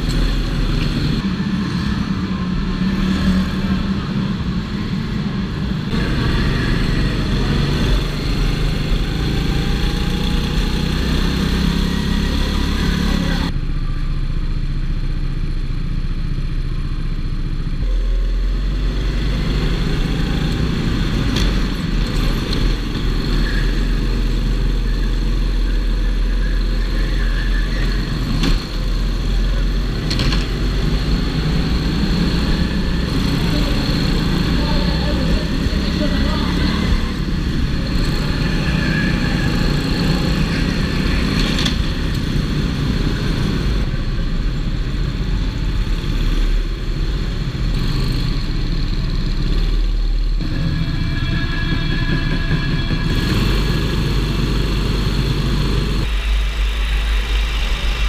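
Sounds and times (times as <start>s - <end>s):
go-kart engine running: 0.0s - 18.2s, 19.0s - 56.1s.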